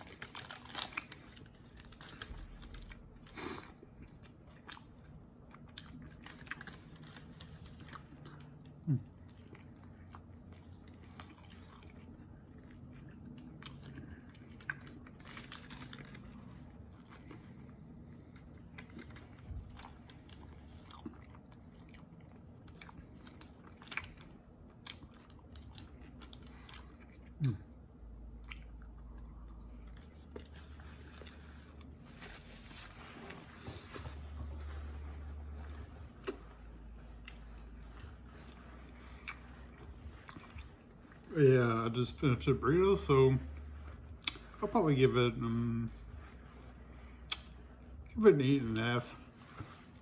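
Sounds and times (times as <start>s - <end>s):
man chewing food: 0.0s - 50.0s.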